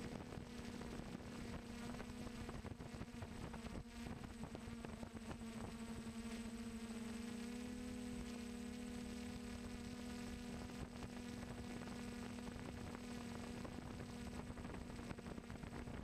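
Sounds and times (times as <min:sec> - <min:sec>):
quadcopter motors buzzing: 0:00.0 - 0:16.0.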